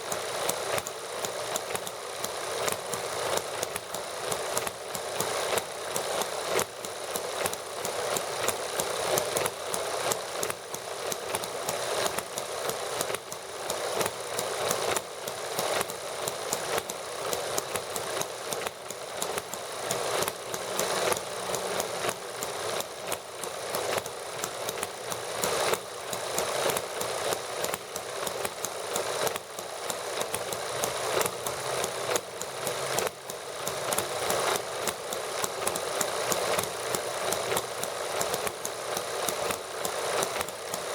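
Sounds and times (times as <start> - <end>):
small model engines clattering: 0.0 - 40.9.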